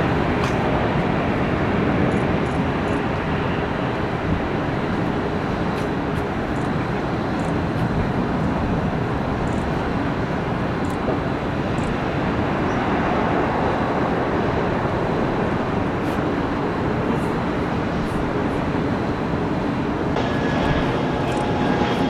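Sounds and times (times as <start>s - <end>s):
jet airliner engines: 0.0s - 22.0s.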